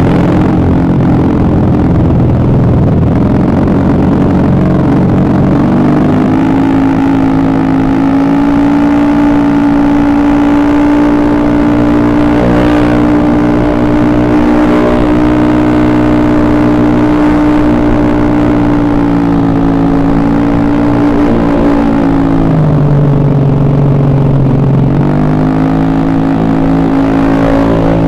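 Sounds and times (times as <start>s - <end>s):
scooter engine running: 0.0s - 28.0s.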